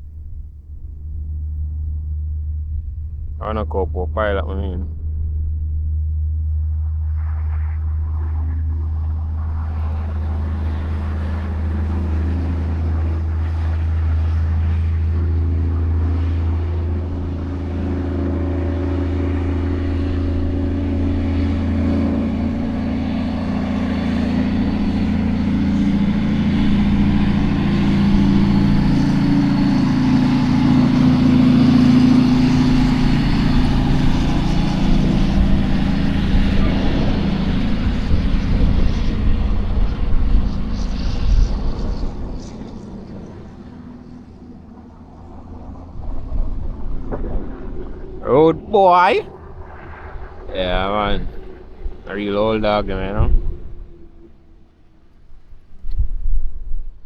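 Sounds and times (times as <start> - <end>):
truck diesel engine running: 0.0 - 55.8.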